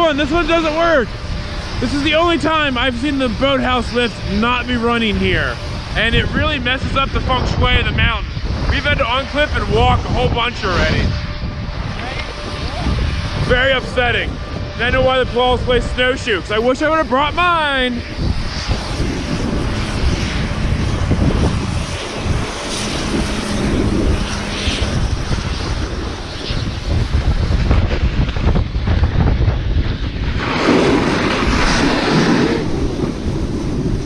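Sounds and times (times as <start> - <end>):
snowboard scraping over snow: 0.0 - 11.2, 12.0 - 29.7, 30.3 - 34.0
wind buffeting microphone: 0.0 - 34.0.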